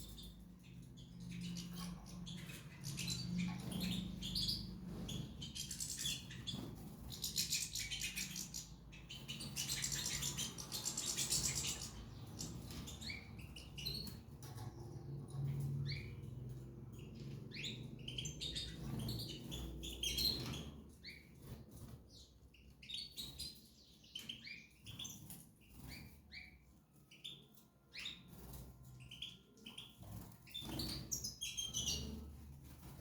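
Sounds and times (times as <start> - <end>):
songbirds chirping and singing: 0.0 - 33.0.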